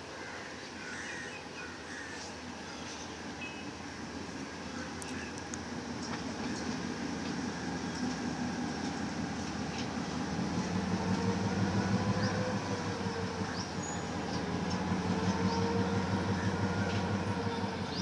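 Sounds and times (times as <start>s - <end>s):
diesel locomotive engine drone: 1.8s - 18.0s.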